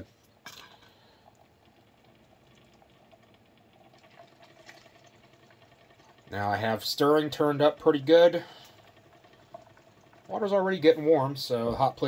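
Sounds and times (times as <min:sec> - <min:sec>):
magnetic stirrer whirring: 0:01.4 - 0:12.0.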